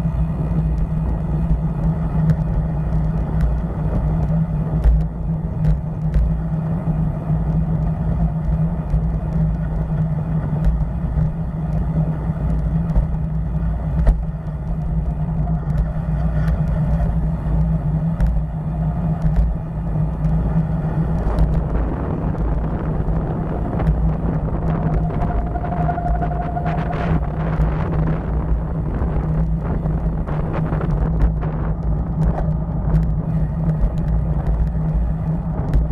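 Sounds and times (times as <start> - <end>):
motorcycle engine running: 0.0 - 35.9
wind rumble on microphone: 0.0 - 35.9.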